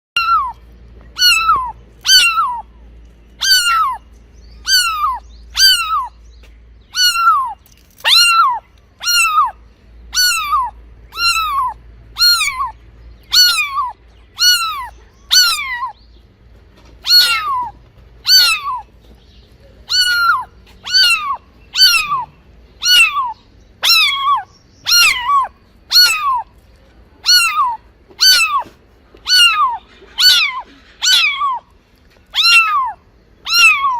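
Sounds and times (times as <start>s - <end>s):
kitten meowing: 0.2s - 2.7s, 3.4s - 4.0s, 4.6s - 6.1s, 6.9s - 16.0s, 17.0s - 18.9s, 19.9s - 26.5s, 27.2s - 31.7s, 32.3s - 33.9s.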